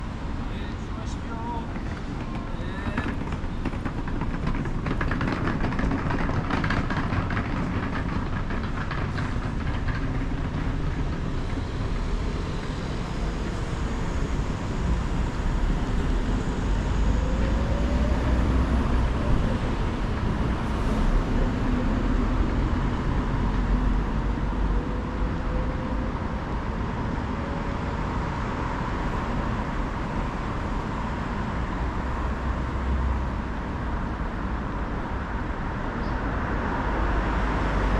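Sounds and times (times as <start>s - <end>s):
low rumble of passing vehicles: 0.0s - 37.9s.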